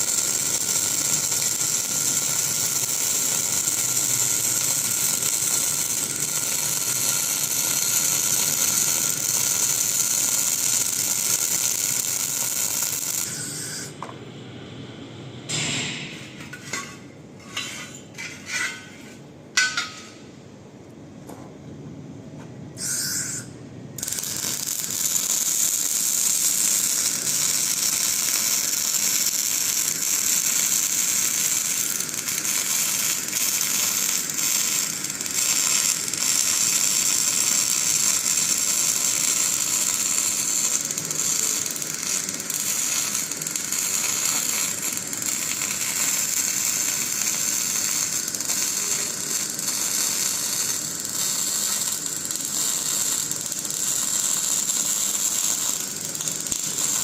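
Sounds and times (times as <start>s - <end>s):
welding arc crackling: 0.0s - 14.0s, 22.8s - 57.0s.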